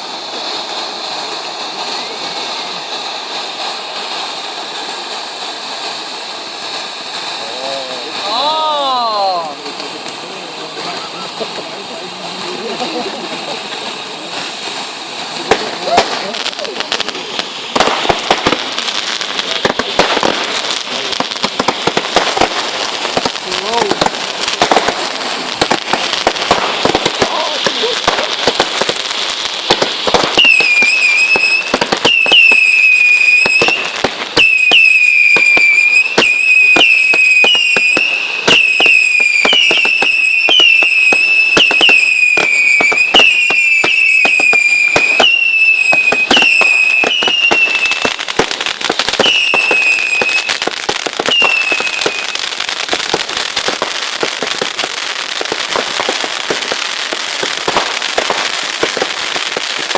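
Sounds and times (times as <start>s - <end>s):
firework whistlers: 0.0s - 59.9s
fireworks cracks and pops: 0.0s - 59.9s.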